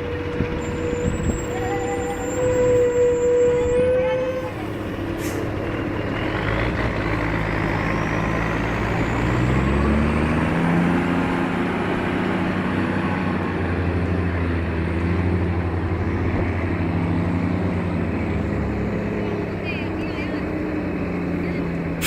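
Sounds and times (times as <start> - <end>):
truck diesel engine running: 0.0 - 22.0.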